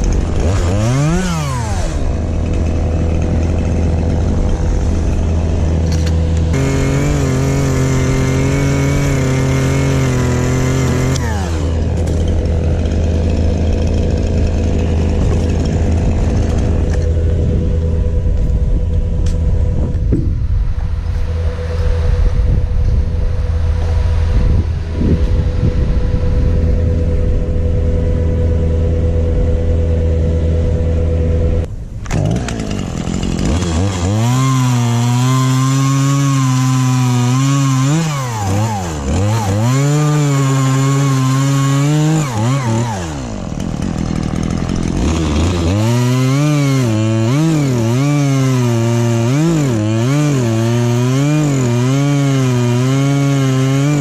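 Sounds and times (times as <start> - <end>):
chainsaw cutting wood: 0.0 - 22.2, 27.8 - 54.0
engine drone: 0.0 - 54.0.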